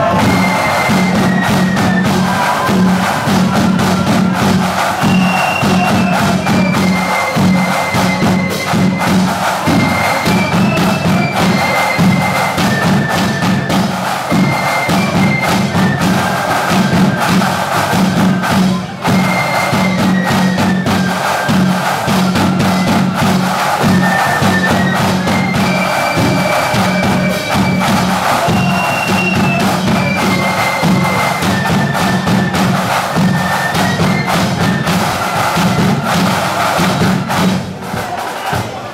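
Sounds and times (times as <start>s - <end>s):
flute melody: 0.0s - 38.8s
snare and bass drumming: 0.0s - 38.9s.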